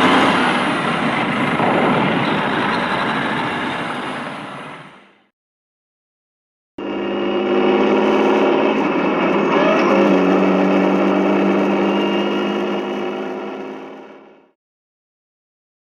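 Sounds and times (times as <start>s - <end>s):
heavy truck engine drone: 0.0s - 5.3s, 6.8s - 14.6s.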